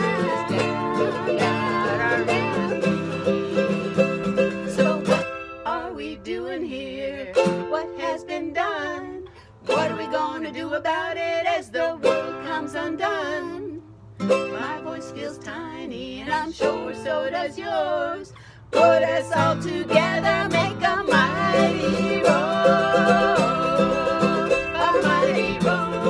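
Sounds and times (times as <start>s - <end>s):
women singing together: 0.0s - 3.8s, 4.5s - 13.8s, 14.5s - 26.0s
nylon-string acoustic guitar: 0.0s - 26.0s
small strummed string instrument: 0.0s - 26.0s.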